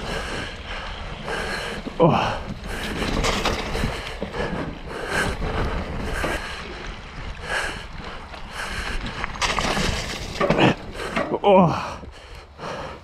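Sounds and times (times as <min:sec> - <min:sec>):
bike tyres sloshing through creek: 0:00.0 - 0:11.1.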